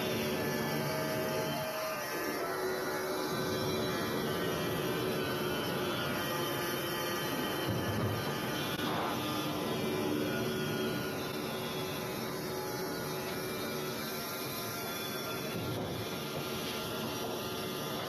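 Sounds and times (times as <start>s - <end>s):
bandsaw sawmill droning: 0.0s - 18.0s
falling whine: 0.0s - 18.0s.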